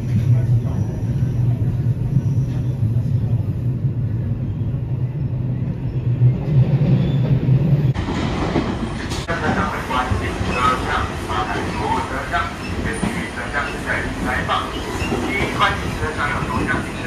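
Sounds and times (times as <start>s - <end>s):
train rumbling on board: 0.0s - 17.0s.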